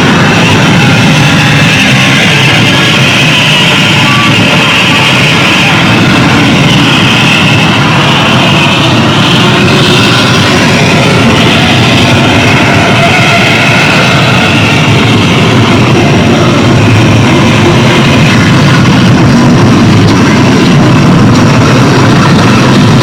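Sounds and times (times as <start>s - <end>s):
distorted electronic noise: 0.0s - 23.0s.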